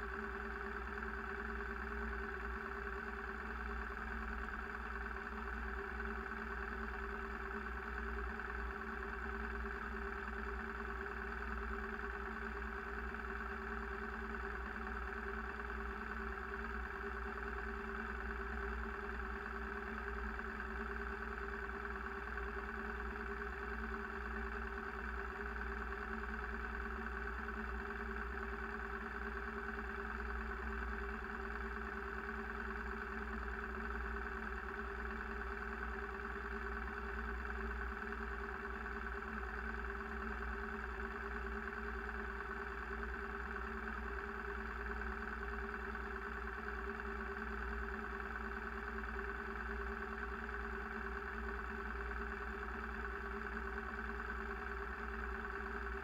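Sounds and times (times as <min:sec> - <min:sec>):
vehicle engine running steadily: 0:00.0 - 0:56.0.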